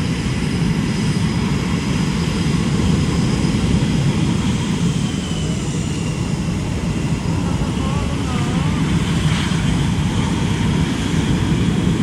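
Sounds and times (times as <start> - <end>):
high jet whine: 0.0 - 12.0
jet engine rumble: 0.0 - 12.0.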